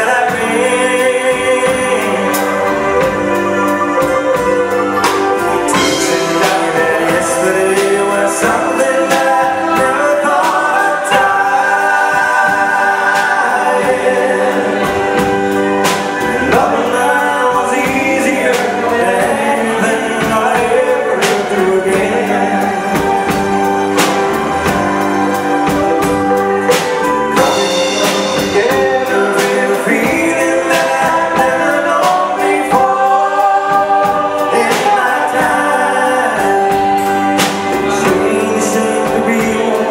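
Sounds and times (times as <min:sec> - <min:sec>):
man singing into microphone: 0:00.0 - 0:04.6, 0:05.4 - 0:23.8, 0:26.6 - 0:39.9
live band playing: 0:00.0 - 0:39.9.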